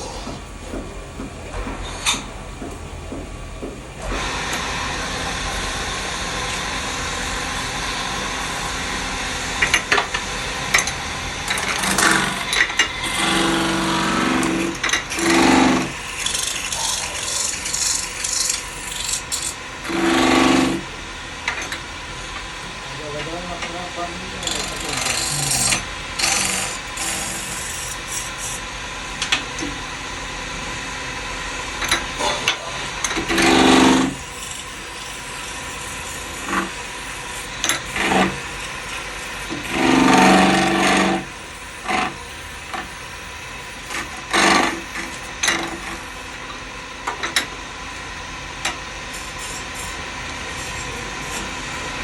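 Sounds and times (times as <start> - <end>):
lathe machine noise: 0.0 - 52.0
tool scraping spinning workpiece: 4.1 - 28.6, 31.8 - 52.0.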